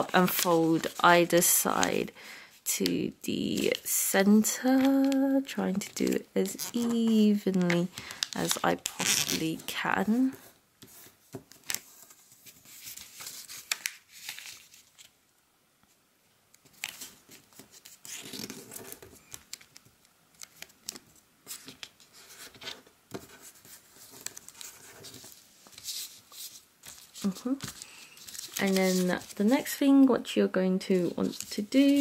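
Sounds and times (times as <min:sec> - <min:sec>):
paper being folded and creased: 0:00.0 - 0:02.1, 0:02.9 - 0:15.2, 0:16.6 - 0:30.0, 0:30.8 - 0:32.0.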